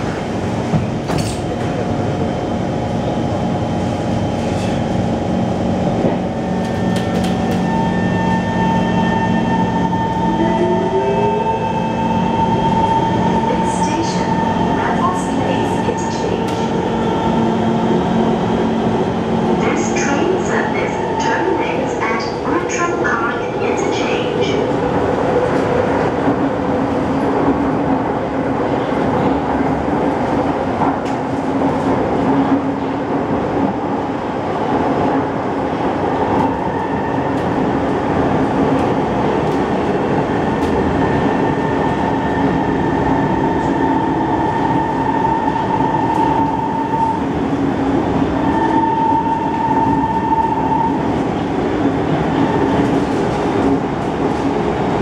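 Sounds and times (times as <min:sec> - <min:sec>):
rumble of metro car wheels on rail: 0:00.0 - 0:55.0.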